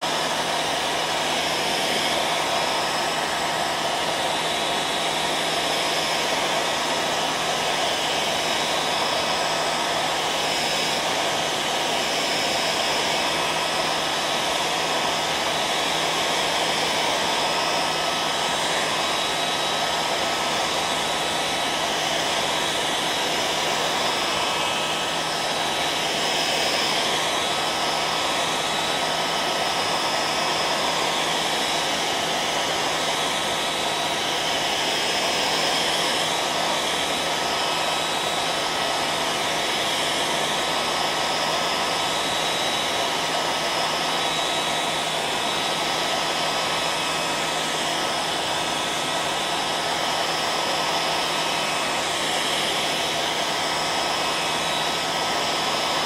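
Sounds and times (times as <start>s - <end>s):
hairdryer blowing air: 0.0s - 56.0s.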